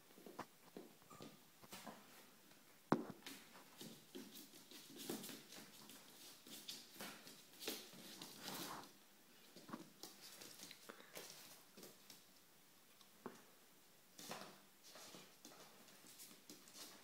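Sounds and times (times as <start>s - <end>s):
puppy paws scampering on wood: 0.2s - 12.3s, 14.2s - 17.0s.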